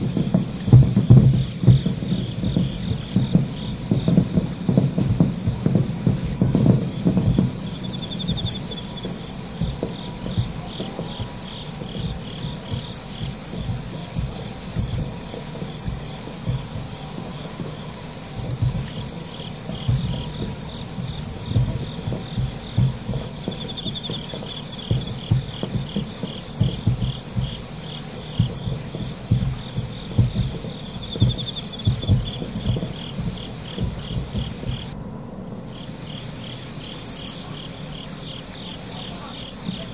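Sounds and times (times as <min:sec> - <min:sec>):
distant fireworks booming: 0:00.0 - 0:39.9
insects chirring in a trill: 0:00.0 - 0:39.9
rapidly pulsing insect call: 0:00.0 - 0:39.9.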